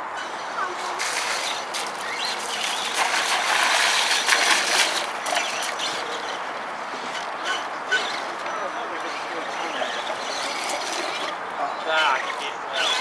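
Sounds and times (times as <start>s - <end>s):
rc trucks churning through mud: 0.0s - 13.0s.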